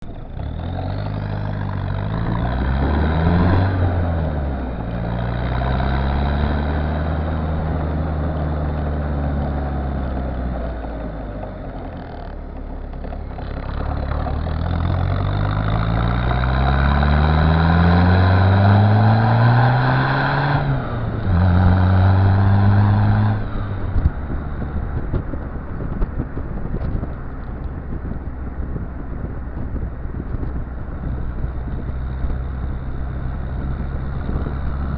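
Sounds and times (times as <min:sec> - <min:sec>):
diesel engine under way: 0:00.0 - 0:34.9
road or wind noise: 0:00.0 - 0:34.9.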